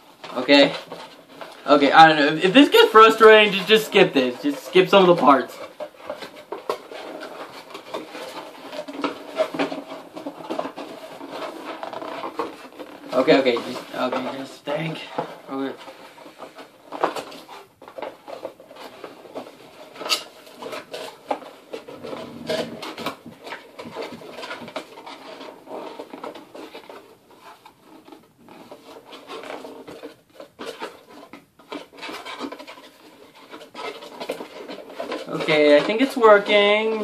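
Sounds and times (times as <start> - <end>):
cardboard being bent and folded: 0.1 - 37.0.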